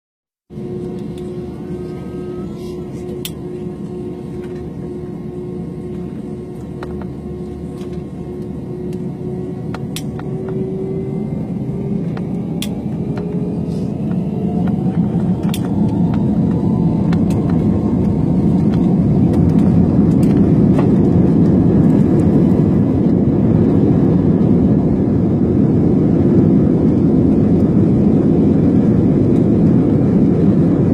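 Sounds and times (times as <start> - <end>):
faint rising whine: 0.5 - 26.9
low engine rumble: 0.5 - 30.9.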